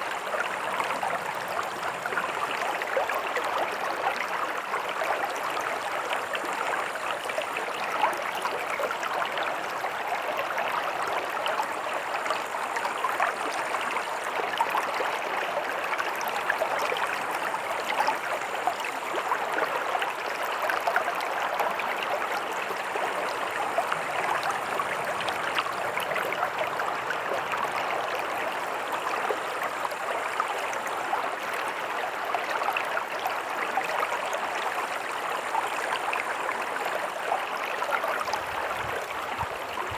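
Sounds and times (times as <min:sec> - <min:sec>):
stream water running over stones: 0:00.0 - 0:39.9.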